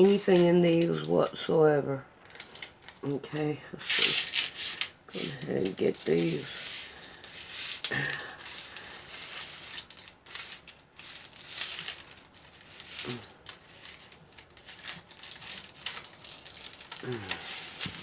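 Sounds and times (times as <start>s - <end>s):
crinkling and rustling materials: 0.0s - 1.4s, 2.2s - 18.0s.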